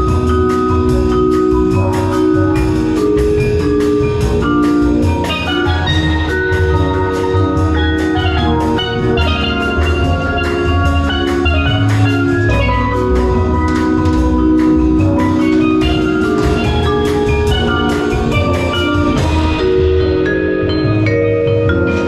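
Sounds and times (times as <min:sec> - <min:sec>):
mallet melody over percussive beat: 0:00.0 - 0:22.0.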